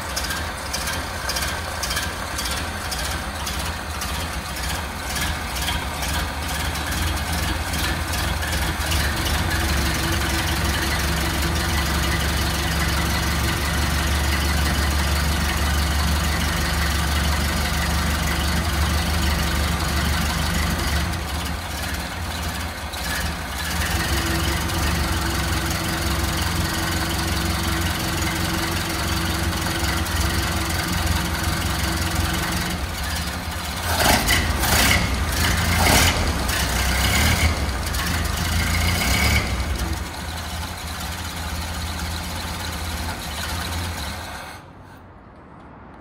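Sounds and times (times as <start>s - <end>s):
car engine idling: 0.0s - 44.7s.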